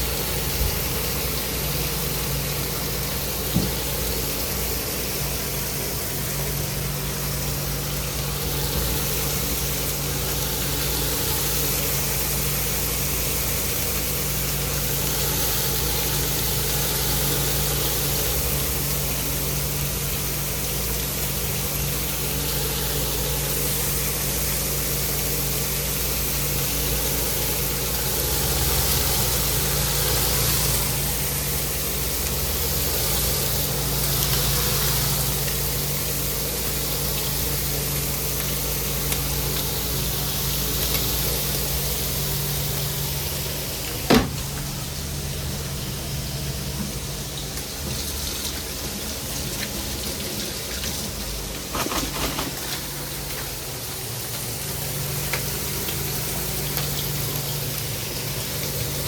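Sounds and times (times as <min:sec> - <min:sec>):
constant hiss: 0:00.0 - 0:59.0
kitchen machinery hum: 0:00.0 - 0:59.0.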